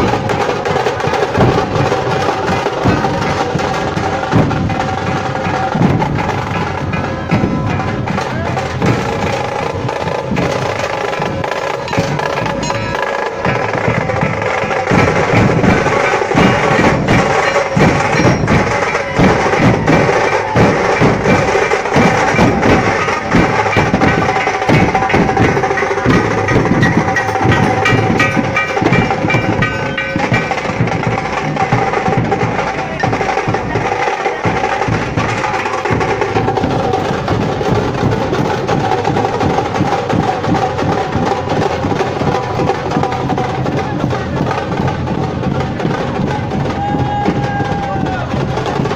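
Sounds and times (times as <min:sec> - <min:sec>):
dhol drums played fast: 0:00.0 - 0:48.9.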